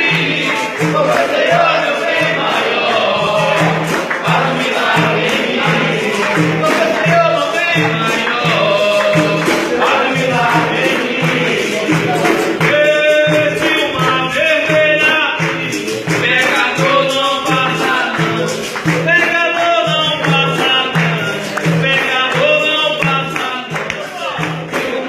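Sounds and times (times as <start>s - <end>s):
berimbau and tambourine beat: 0.0s - 25.0s
person singing: 0.0s - 25.0s.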